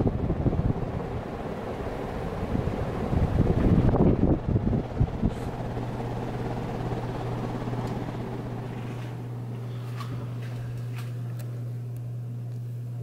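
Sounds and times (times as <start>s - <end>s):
ceiling fan motor hum: 0.0s - 13.0s
fan draft buffeting microphone: 0.0s - 13.0s.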